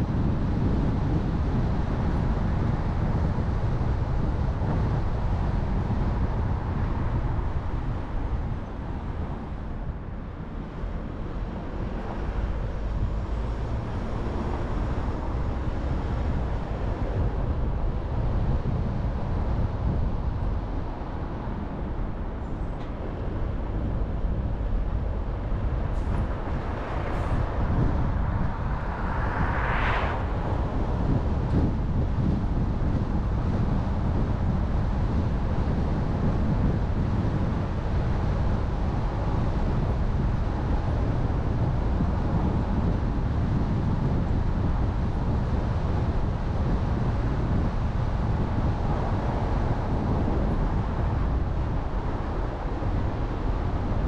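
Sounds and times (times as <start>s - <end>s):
car driving on road: 0.0s - 54.0s.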